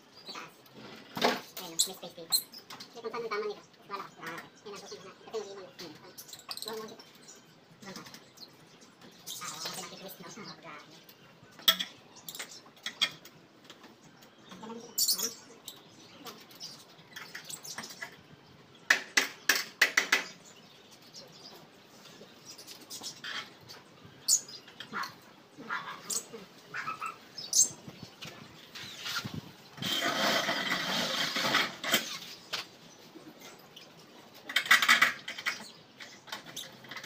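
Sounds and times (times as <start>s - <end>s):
caged birds chirping: 0.0s - 37.0s.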